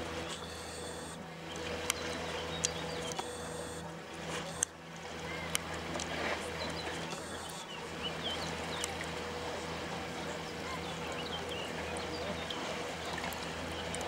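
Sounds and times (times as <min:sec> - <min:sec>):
low engine hum: 0:00.0 - 0:14.0
sea noise: 0:00.0 - 0:14.0.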